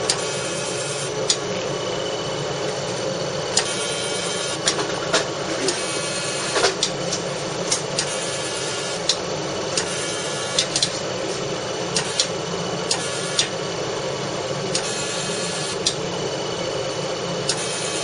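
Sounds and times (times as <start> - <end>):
laser machine hum and hiss: 0.0 - 18.0.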